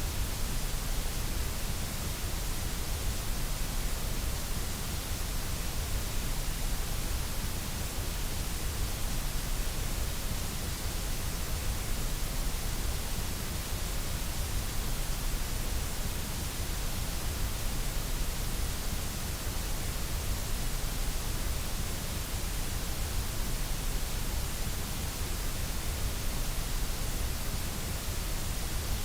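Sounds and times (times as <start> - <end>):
white noise hiss: 0.0 - 29.0.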